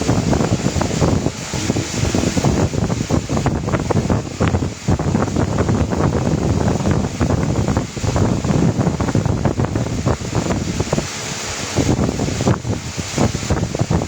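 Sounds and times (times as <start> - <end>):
rumbling and crackling on microphone: 0.0 - 14.0.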